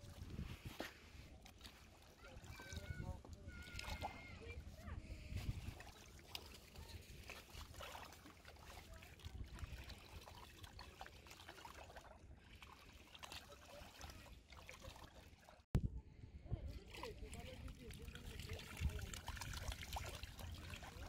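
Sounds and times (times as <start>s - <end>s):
wading through shallow water: 0.0s - 15.7s, 16.3s - 21.0s.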